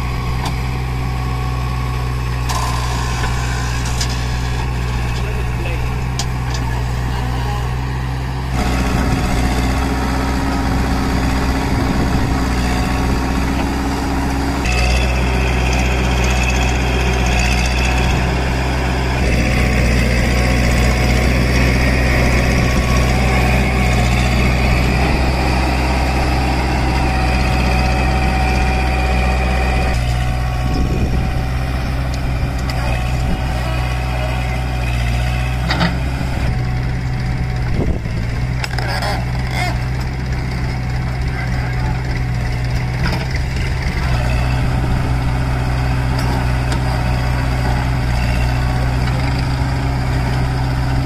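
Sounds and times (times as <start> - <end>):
diesel engines running: 0.0 - 51.0.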